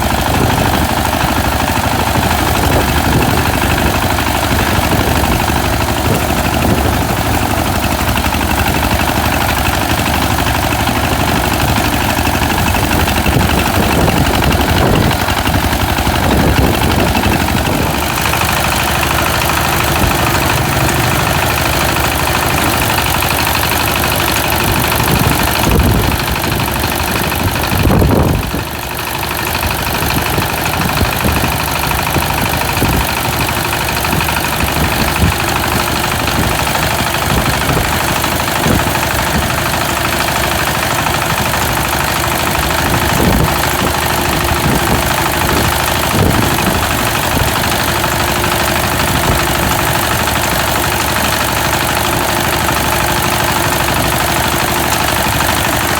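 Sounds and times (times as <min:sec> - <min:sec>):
harvester engine running: 0:00.0 - 0:55.9.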